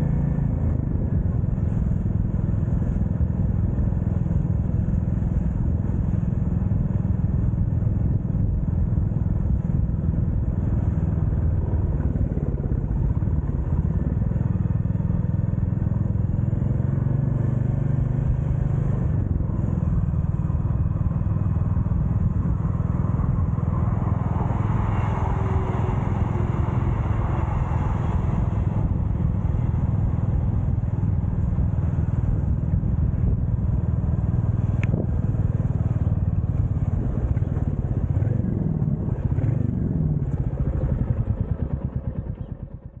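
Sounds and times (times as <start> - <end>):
motorcycle engine rumble: 0.0 - 43.0.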